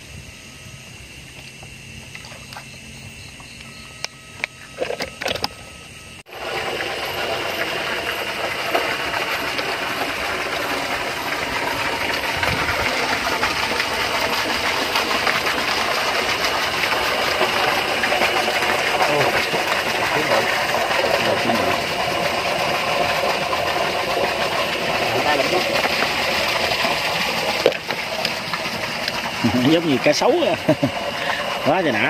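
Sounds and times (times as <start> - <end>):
water gushing from a pipe: 6.3 - 32.0.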